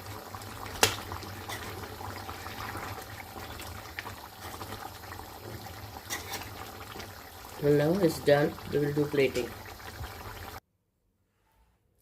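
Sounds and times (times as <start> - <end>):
stew simmering in a pan: 0.0 - 10.6.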